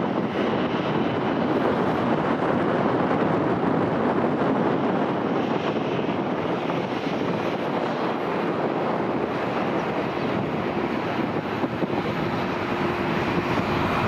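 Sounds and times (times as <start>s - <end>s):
jet engines idling: 0.0s - 14.0s.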